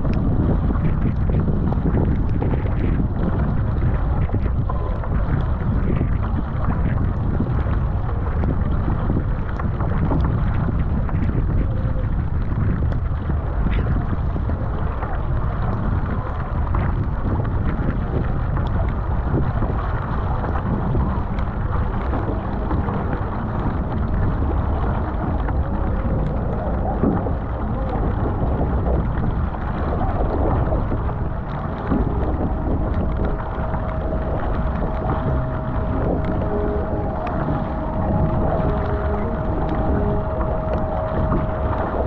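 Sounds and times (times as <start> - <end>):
faint steady hum: 0.0 - 42.0
paddle splashes: 0.0 - 42.0
water slapping against hull: 0.0 - 42.0
wind buffeting microphone: 0.0 - 42.0.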